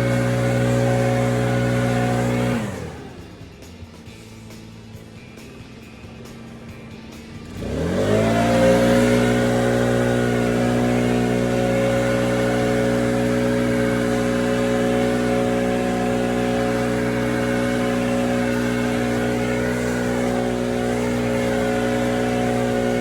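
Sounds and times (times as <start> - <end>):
diesel engine revving up: 0.0 - 23.0.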